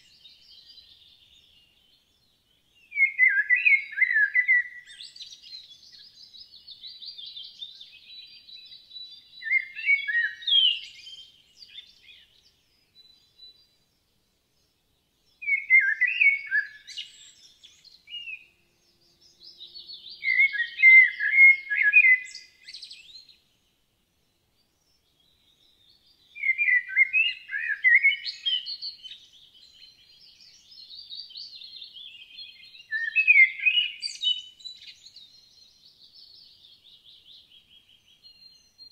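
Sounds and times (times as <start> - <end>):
blackbird singing: 0.0 - 14.0, 14.6 - 38.9.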